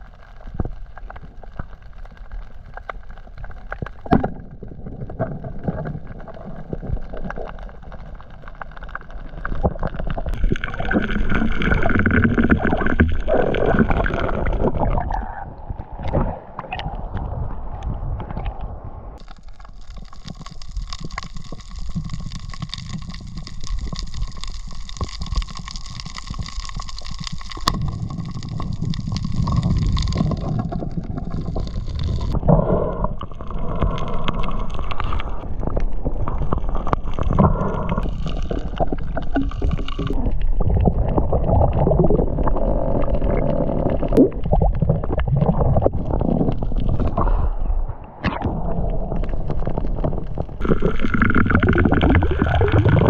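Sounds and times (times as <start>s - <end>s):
muffled underwater water rushing: 0.0s - 53.0s.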